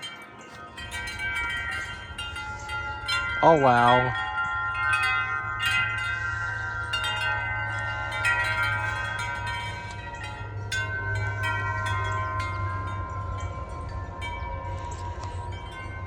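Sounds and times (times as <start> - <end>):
wind chimes ringing: 0.0 - 16.0.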